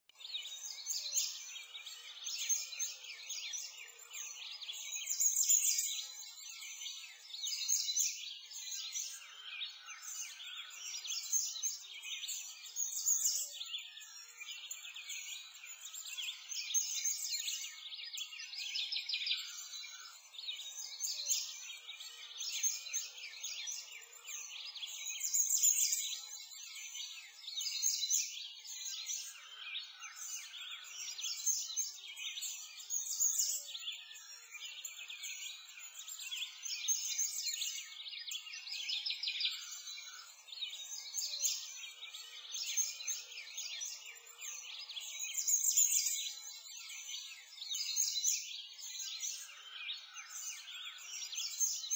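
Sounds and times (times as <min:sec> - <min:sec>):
songbirds chirping and singing: 0:00.0 - 0:51.9.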